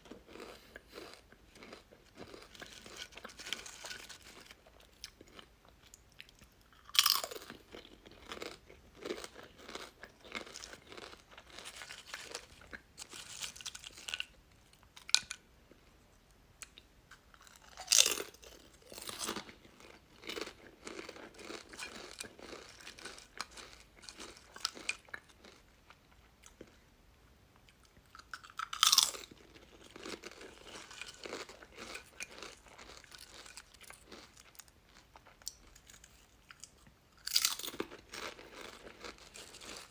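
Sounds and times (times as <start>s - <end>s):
crunchy chewing: 0.1s - 15.3s, 16.7s - 25.6s, 27.7s - 39.9s.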